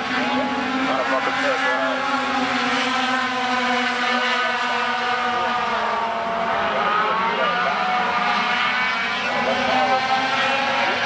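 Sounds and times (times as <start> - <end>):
truck engines droning: 0.0 - 11.0.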